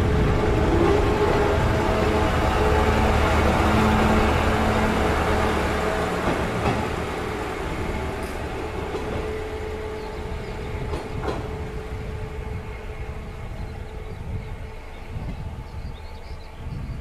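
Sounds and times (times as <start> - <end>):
diesel railcar engine rumble: 0.0 - 17.0.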